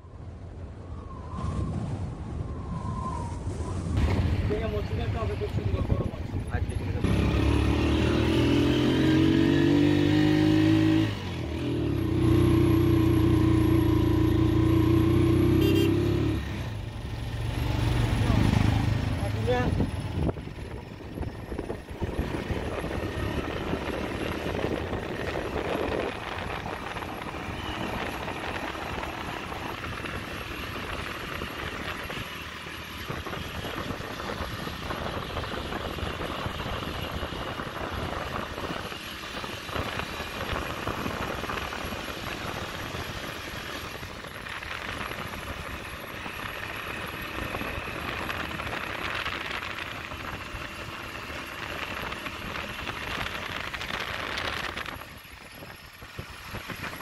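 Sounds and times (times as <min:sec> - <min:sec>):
road and wind noise: 0:00.0 - 0:57.0
small vehicle engine running: 0:06.7 - 0:57.0.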